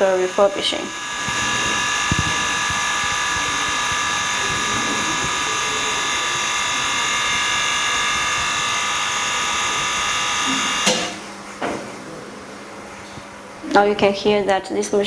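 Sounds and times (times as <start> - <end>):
pump humming with whining tones: 0.0 - 13.9.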